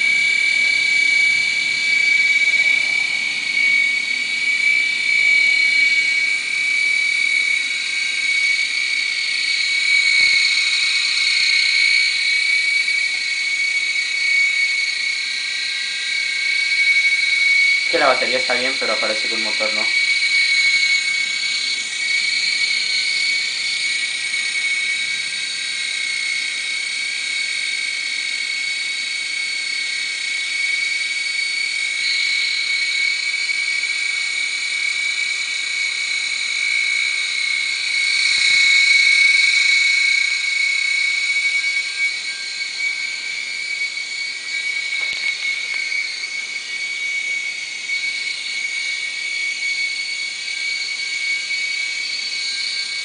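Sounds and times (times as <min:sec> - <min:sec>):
small electric motors whining: 0:00.0 - 0:53.0.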